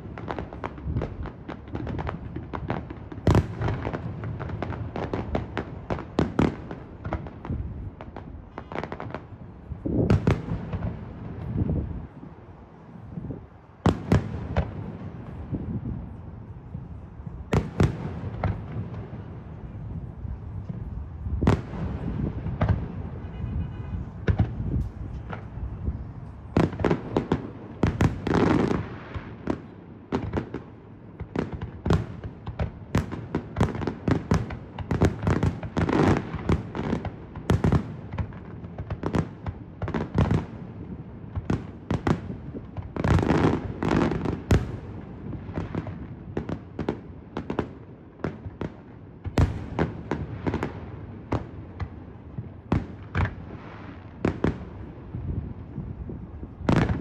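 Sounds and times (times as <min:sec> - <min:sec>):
fireworks bangs and booms: 0:00.0 - 0:57.0.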